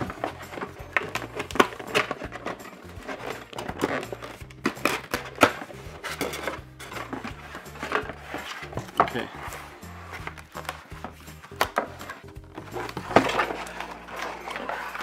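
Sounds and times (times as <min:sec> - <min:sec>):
cardboard box being folded: 0:00.0 - 0:15.0
faint background music: 0:00.0 - 0:15.0.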